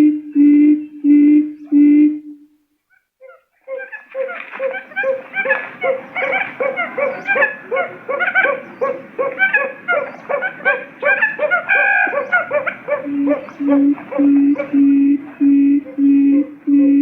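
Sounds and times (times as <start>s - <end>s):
low hooting call: 0.0s - 2.6s, 3.2s - 17.0s
quail chirping calls: 2.9s - 16.9s.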